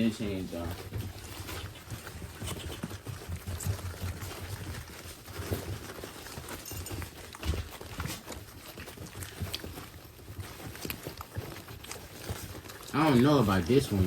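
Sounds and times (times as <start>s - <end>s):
puppy claws tapping and scuffling: 0.0s - 14.0s.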